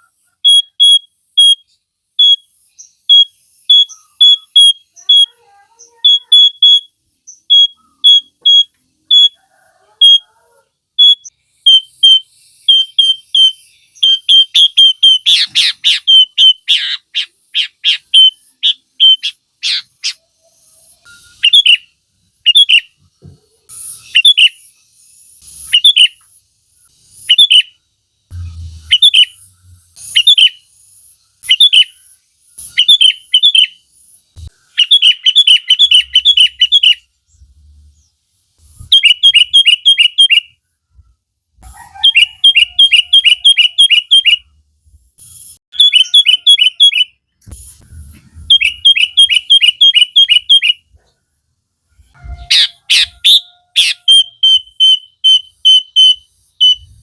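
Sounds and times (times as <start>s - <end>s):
bulbul singing: 0.0s - 9.4s, 11.0s - 23.1s, 23.7s - 40.6s, 41.7s - 44.6s, 45.2s - 47.8s, 48.5s - 51.0s, 52.1s - 57.0s.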